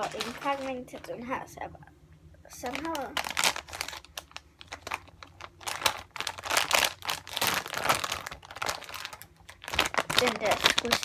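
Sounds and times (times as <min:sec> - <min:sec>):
plastic packaging crinkling: 0:00.0 - 0:01.2, 0:02.6 - 0:11.0.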